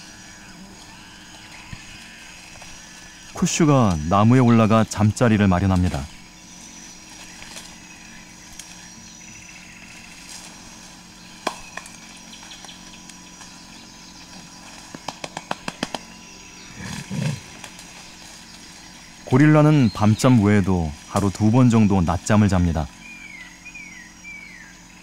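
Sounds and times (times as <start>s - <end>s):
branches cracking: 0.0s - 23.2s
rainforest hum: 0.0s - 25.0s.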